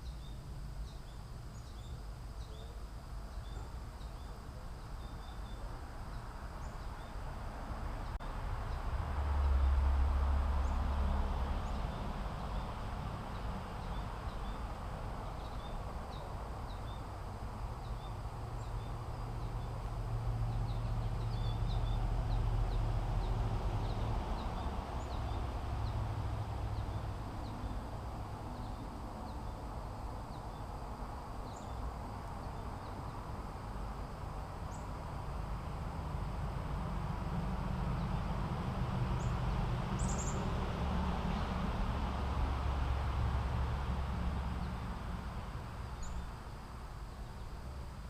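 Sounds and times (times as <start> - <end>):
low rumble and hiss: 0.0 - 48.0.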